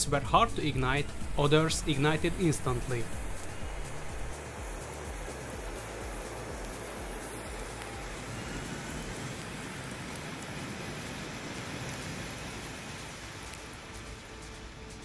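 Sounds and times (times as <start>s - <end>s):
rocket fuel burning: 0.0s - 15.0s.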